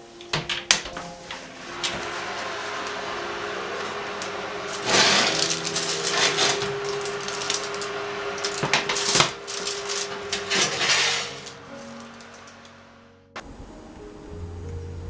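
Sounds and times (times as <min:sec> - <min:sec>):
scraping or rustling: 0:00.0 - 0:12.9.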